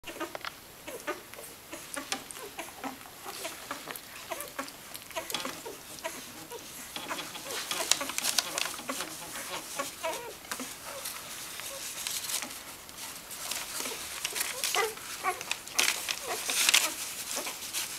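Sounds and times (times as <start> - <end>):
puppies squeaking and grunting: 0.0 - 12.6, 13.4 - 17.8
puppies sucking clicks: 0.1 - 11.0, 13.5 - 17.6.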